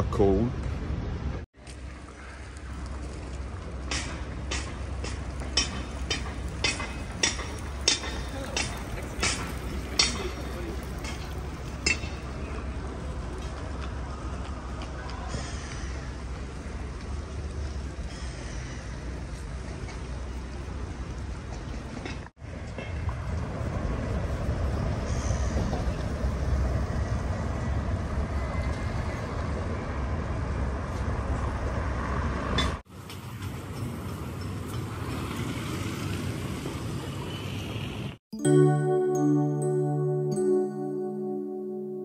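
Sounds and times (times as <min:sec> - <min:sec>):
street ambience rumble: 0:00.0 - 0:42.0.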